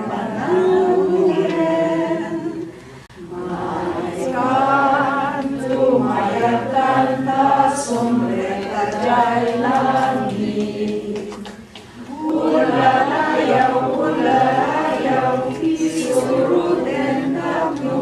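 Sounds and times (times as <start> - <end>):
group singing a cappella: 0.0 - 18.0.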